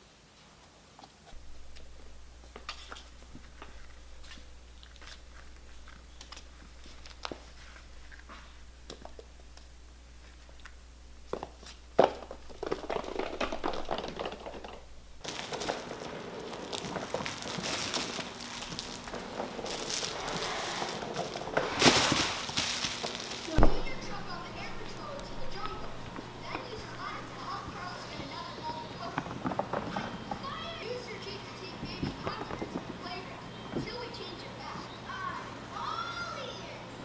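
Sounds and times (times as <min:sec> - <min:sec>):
crinkly rustling: 0:01.2 - 0:34.1
faint low hum: 0:01.3 - 0:36.0.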